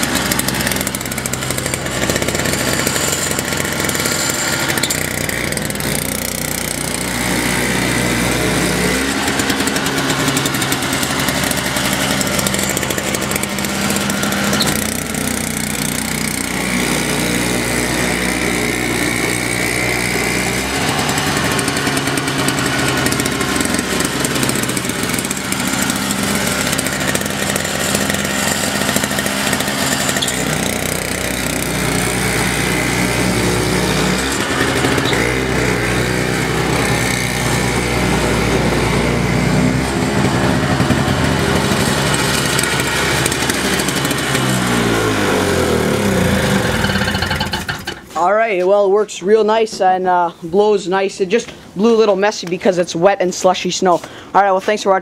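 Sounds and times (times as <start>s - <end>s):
snowblower engine running: 0.0s - 48.2s.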